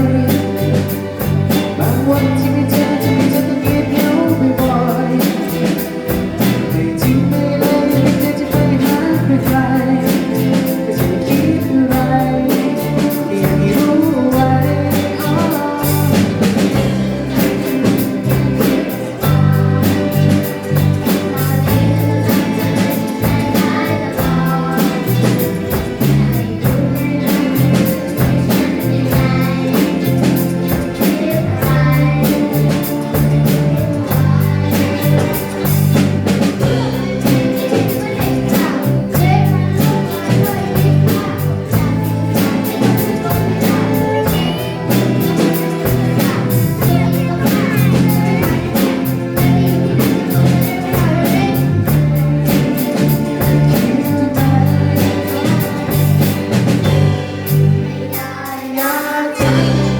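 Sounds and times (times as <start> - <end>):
pop song with band: 0.0 - 59.9.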